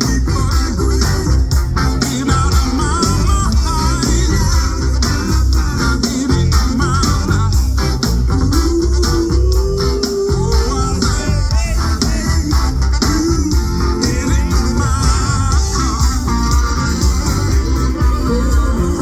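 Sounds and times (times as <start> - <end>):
heavy bass and drum beat: 0.0 - 19.0
live band music: 0.0 - 19.0
wavering electric guitar: 0.0 - 19.0.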